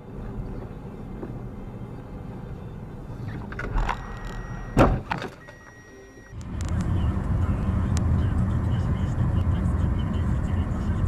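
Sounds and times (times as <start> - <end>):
car road rumble: 0.0 - 11.0.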